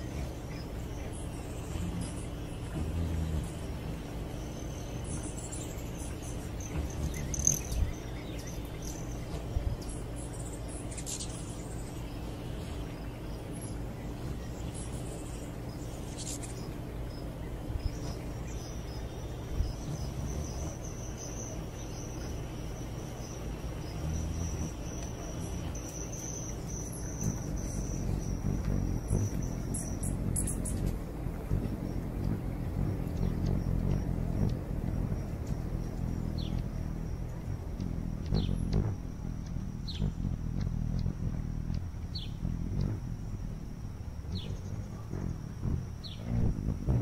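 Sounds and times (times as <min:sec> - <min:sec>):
crickets trilling: 0:00.0 - 0:47.0
low steady hum: 0:00.0 - 0:47.0.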